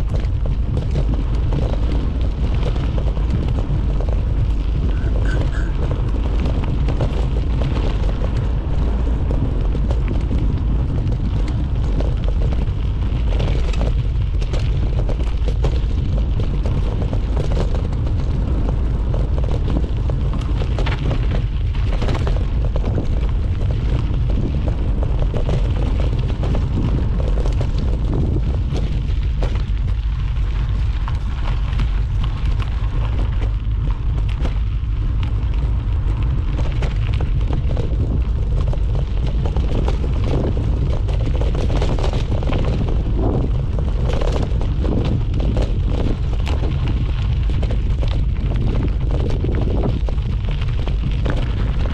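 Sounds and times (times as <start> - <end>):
mountain bike rattling on rocks: 0.0 - 51.9
wind buffeting microphone: 0.0 - 51.9.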